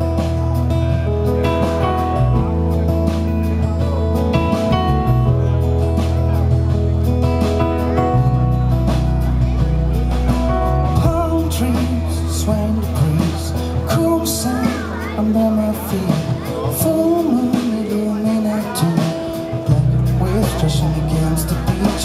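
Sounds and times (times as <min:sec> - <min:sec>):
drums: 0:00.0 - 0:22.0
electric bass: 0:00.0 - 0:22.0
keyboard: 0:00.0 - 0:22.0
strummed acoustic guitar: 0:00.0 - 0:22.0.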